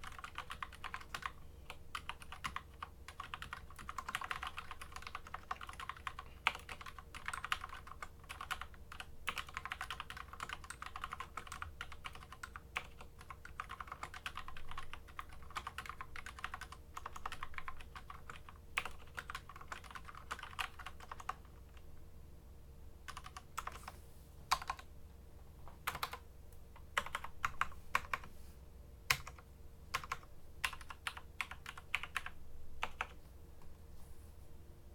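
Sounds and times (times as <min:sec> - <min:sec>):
mechanical keyboard typing: 0:00.0 - 0:21.8, 0:23.1 - 0:23.9, 0:24.5 - 0:24.9, 0:25.8 - 0:26.2, 0:26.8 - 0:28.3, 0:29.1 - 0:33.2.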